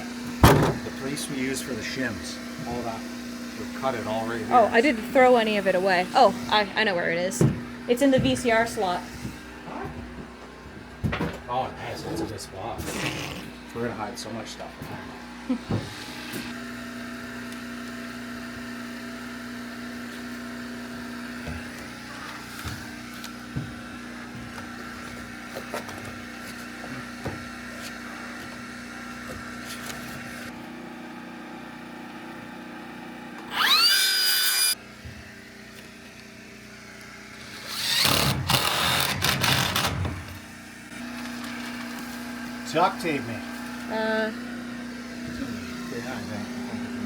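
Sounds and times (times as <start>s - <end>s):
power tool motor whining: 0.0s - 11.2s, 11.8s - 31.1s, 33.2s - 47.0s.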